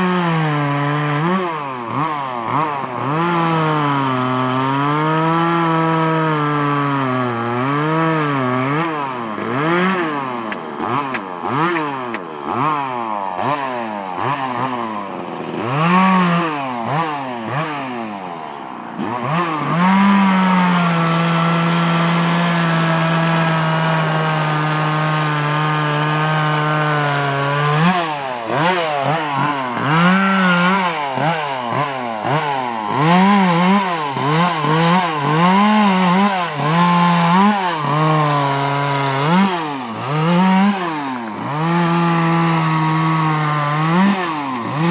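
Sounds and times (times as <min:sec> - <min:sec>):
chainsaw revving cutting wood: 0:00.0 - 0:44.9.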